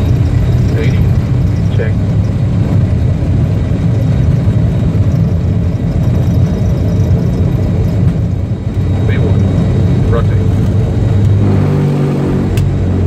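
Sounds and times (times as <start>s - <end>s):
faint high engine tones: 0.0s - 11.7s
jet engines deep rumble: 0.0s - 13.0s.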